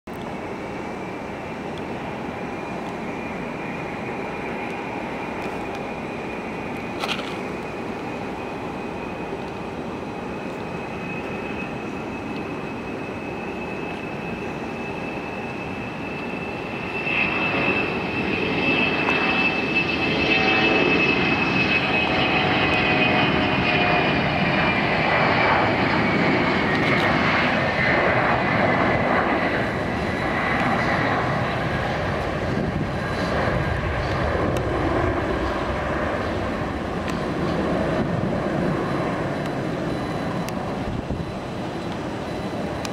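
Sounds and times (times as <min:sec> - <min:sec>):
jet engines whining: 0:00.1 - 0:42.9.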